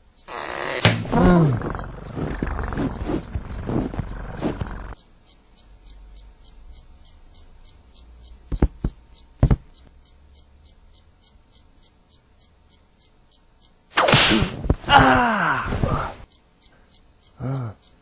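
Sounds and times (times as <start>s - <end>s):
faint rapid ticking: 0.0s - 14.0s, 16.2s - 18.0s.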